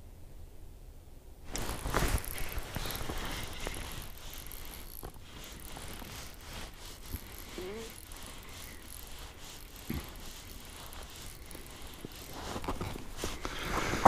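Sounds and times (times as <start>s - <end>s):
fishing reel whirring and clicking: 1.5s - 14.0s.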